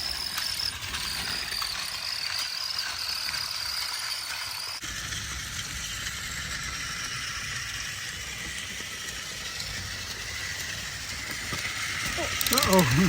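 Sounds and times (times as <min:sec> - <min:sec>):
toy train gearbox rattling: 0:00.0 - 0:13.0.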